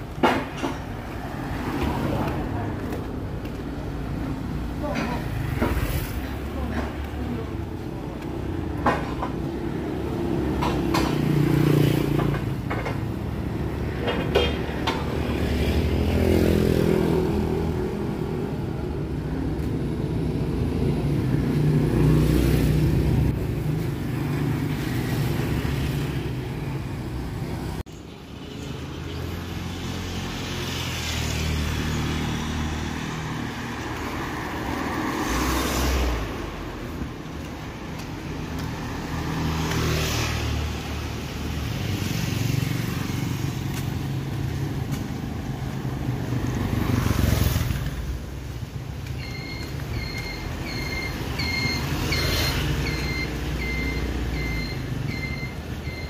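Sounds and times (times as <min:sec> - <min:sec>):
motor vehicles passing: 0:00.0 - 0:55.9.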